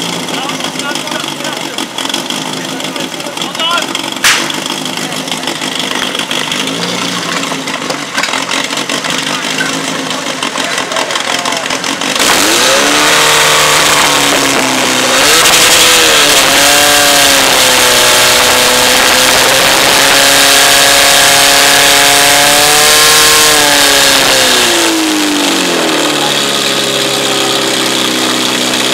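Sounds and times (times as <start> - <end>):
pump engine at full throttle: 0.0 - 28.9.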